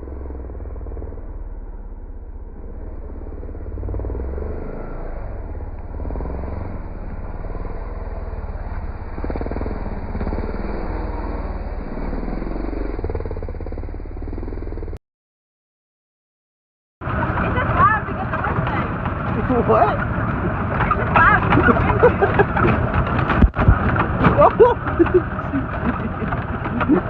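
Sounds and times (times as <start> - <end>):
dirt bike engine running: 0.0 - 15.0, 17.0 - 27.0.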